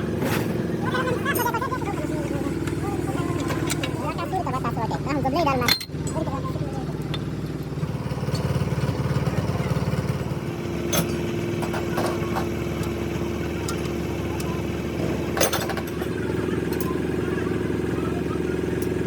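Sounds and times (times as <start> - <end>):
motor running: 0.0 - 19.0.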